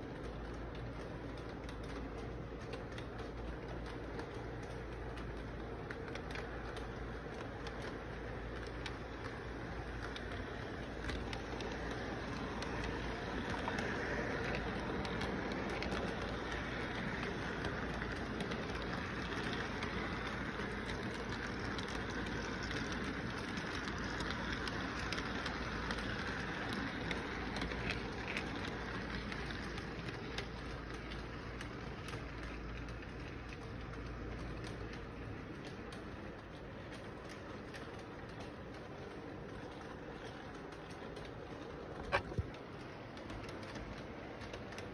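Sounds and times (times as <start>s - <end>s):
clatter of train wheels: 0.0s - 44.9s
model train rumbling: 0.0s - 44.9s.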